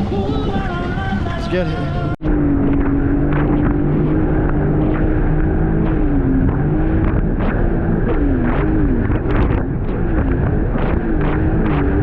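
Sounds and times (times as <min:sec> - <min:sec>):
jet ski engine running: 0:00.0 - 0:12.0
wind on microphone: 0:00.0 - 0:12.0.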